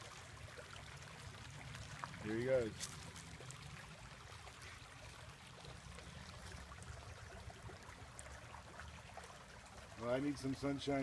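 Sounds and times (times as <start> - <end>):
creek water trickling over stones: 0.0 - 11.0.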